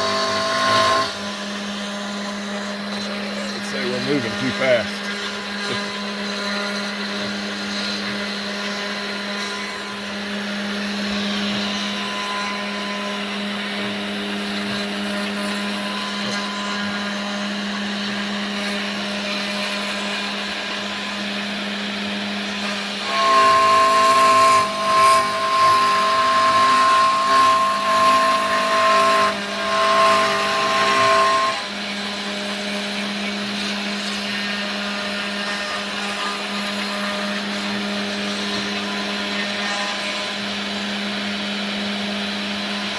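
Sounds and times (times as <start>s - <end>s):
router bit cutting with whine: 0.0s - 42.9s
router spindle humming: 0.0s - 42.9s.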